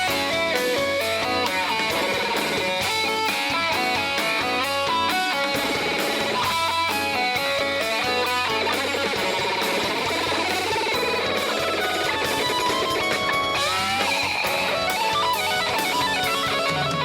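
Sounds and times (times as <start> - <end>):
electric guitar: 0.0 - 17.0
live rock band playing: 0.0 - 17.0
steady bass: 0.0 - 17.0.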